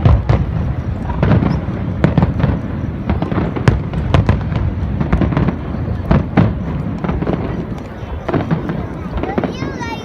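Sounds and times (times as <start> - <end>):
continuous low rumble: 0.0 - 10.0
fireworks booms and bangs: 0.0 - 10.0.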